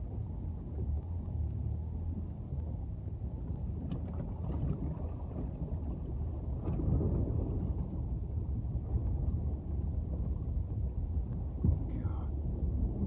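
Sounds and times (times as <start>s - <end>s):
water surging under car: 2.1s - 13.0s.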